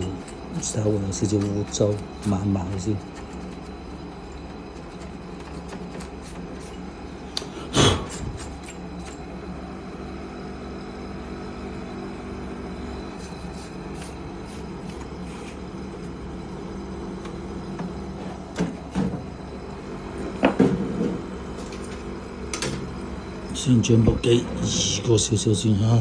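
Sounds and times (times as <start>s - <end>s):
dehumidifier humming: 0.0s - 26.0s.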